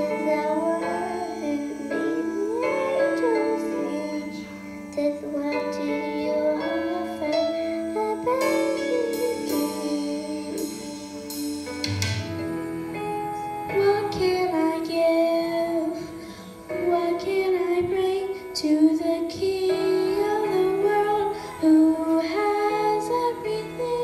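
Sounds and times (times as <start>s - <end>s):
girl singing into microphone: 0.0s - 11.7s, 12.3s - 24.0s
instrumental accompaniment: 0.0s - 24.0s.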